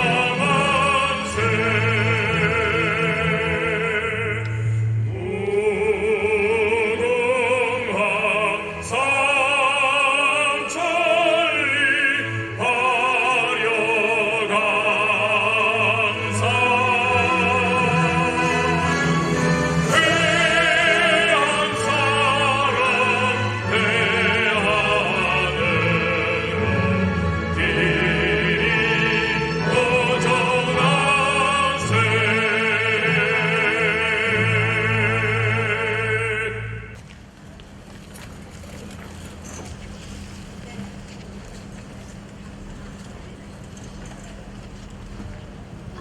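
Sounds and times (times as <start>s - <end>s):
operatic voice singing: 0.0s - 37.0s.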